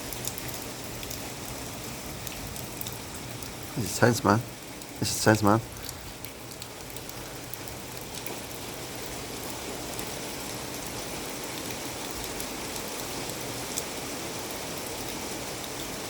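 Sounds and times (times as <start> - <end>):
heavy rain falling: 0.0 - 16.0
raindrops ticking on surfaces: 0.0 - 16.0.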